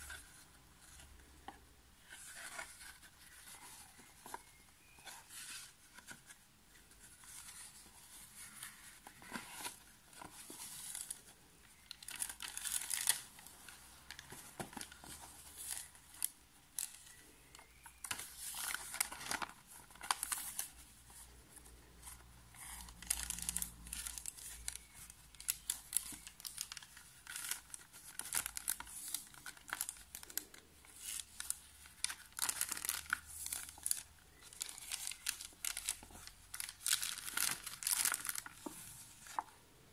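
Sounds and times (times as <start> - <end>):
paper pages rustling: 2.0 - 39.6.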